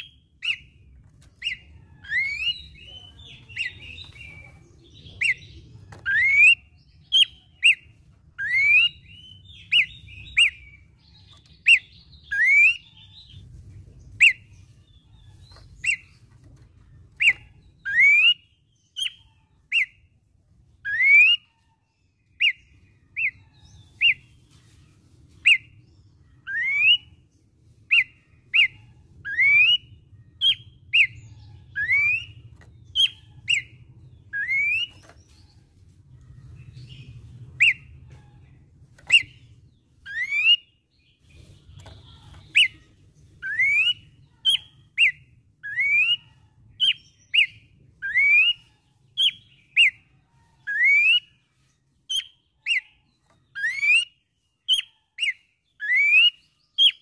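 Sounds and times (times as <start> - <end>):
bird singing clear whistles: 0.0 - 13.4, 14.2 - 16.2, 17.1 - 20.0, 20.8 - 21.5, 22.3 - 24.4, 25.4 - 25.8, 26.4 - 27.2, 27.9 - 35.5, 37.6 - 37.9, 39.0 - 40.8, 41.7 - 42.8, 43.4 - 51.4, 52.1 - 57.0.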